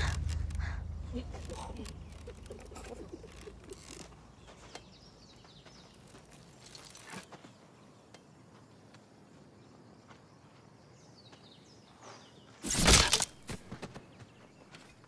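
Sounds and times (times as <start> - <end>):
faint bird chirps: 1.1 - 15.0.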